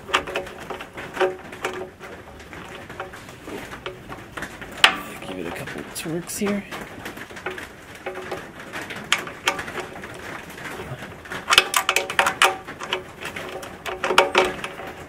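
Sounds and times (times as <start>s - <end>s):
hand tools clicking and rattling: 0.0s - 15.0s.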